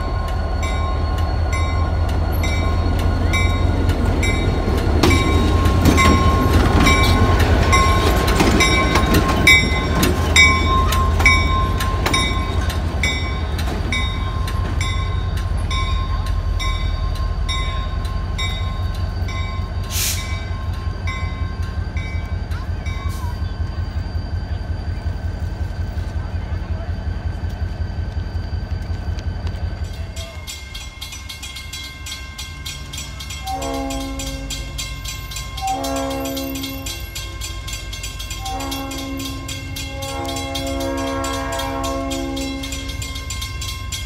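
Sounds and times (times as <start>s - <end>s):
locomotive bell ringing: 0.0s - 25.5s, 26.4s - 44.0s
locomotive rumbling: 0.0s - 44.0s.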